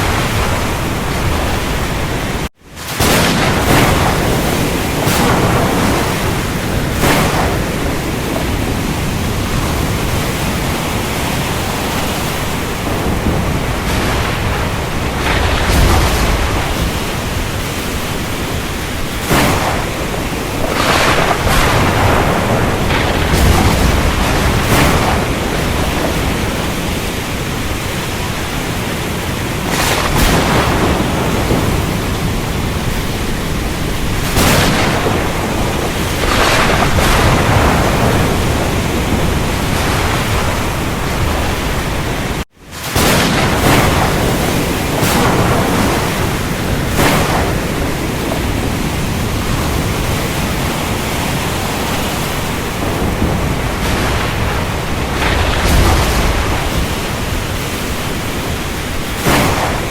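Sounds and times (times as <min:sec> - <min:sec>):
heavy rain hiss: 0:00.0 - 0:59.9
low thunder rumbling: 0:00.0 - 0:59.9.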